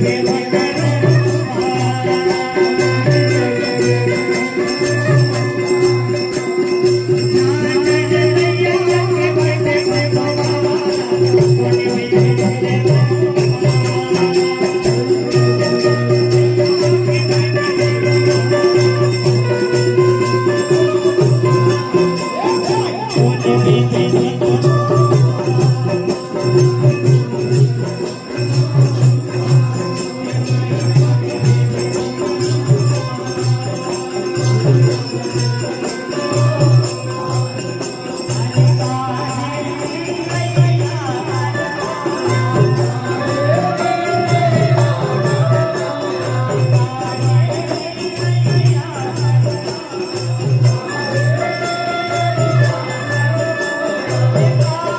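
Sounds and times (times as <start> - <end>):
devotional music with drum beat: 0.0 - 54.9.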